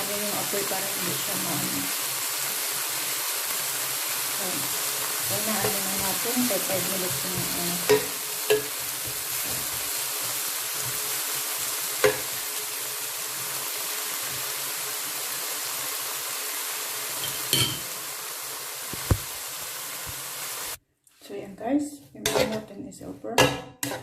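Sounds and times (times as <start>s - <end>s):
vegetables sizzling in a pan: 0.0s - 20.8s, 23.8s - 24.0s.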